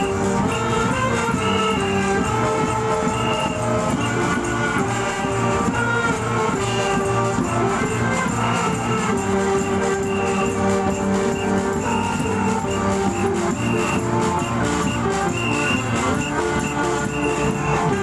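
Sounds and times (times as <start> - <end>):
band playing melody over beat: 0.0 - 18.0
jingling percussion: 0.0 - 18.0.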